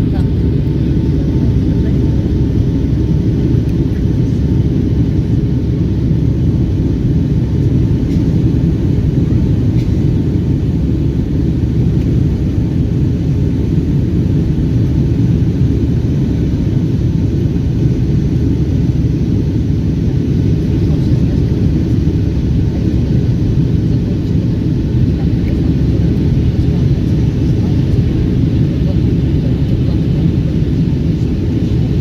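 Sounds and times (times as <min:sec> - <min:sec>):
jet engines roaring at takeoff: 0:00.0 - 0:32.0.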